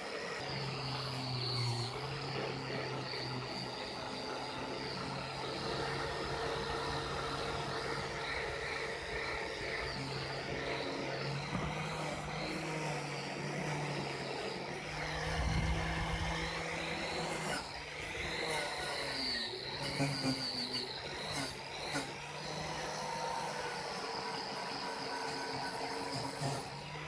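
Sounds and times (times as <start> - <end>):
small motor running: 0.0 - 27.0.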